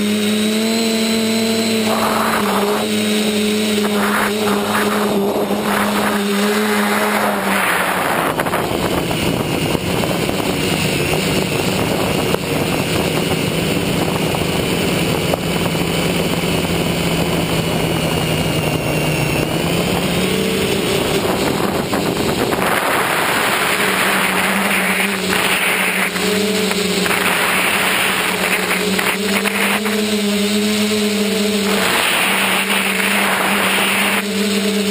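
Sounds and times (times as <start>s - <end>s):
model aircraft motor drone: 0.0s - 34.9s
rushing wind noise: 0.0s - 34.9s.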